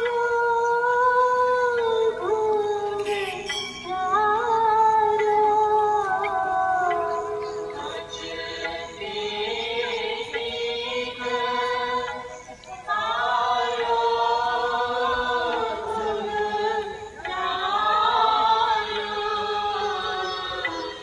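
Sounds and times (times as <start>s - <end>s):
voices singing long notes: 0.0s - 21.0s.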